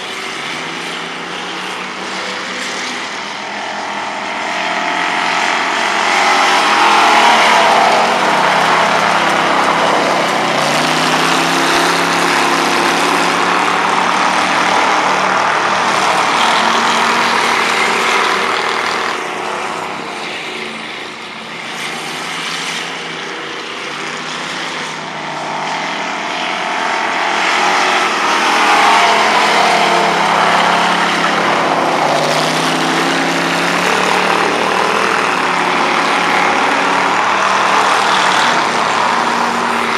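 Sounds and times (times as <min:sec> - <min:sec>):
stock car engine revving: 0:00.0 - 0:39.9.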